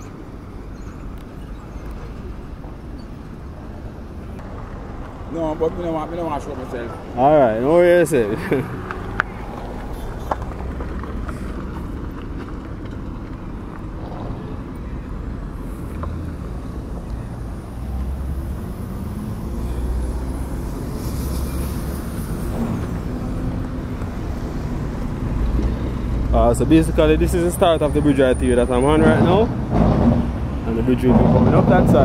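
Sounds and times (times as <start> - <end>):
traffic rumbling on rough road: 0.0 - 32.0.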